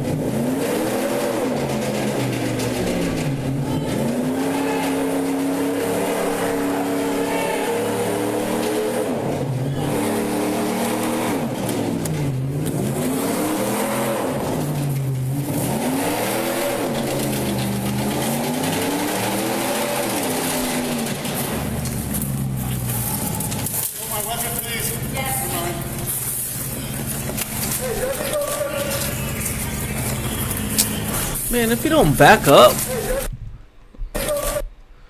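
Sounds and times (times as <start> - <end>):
truck engine revving hard: 0.0 - 33.1.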